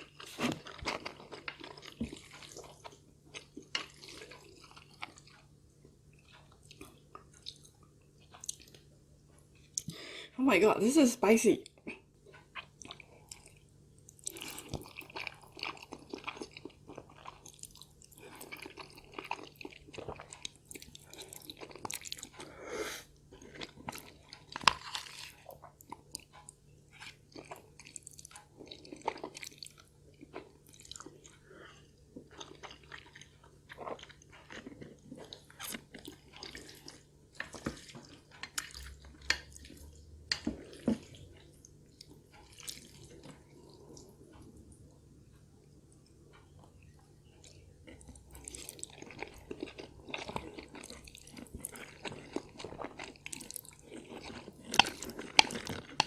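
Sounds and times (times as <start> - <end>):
chewing and biting food: 0.0 - 9.9, 11.7 - 22.5, 23.2 - 45.0, 45.6 - 56.0.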